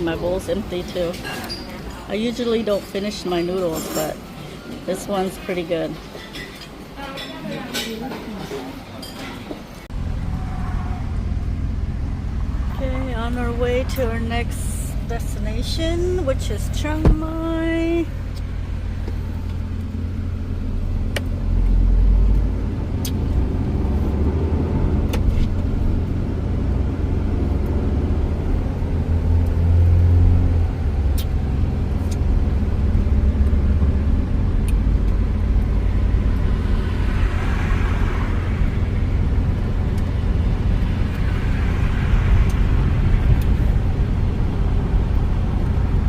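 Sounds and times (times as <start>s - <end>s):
engine and road rumble: 0.0s - 7.0s, 8.5s - 46.0s.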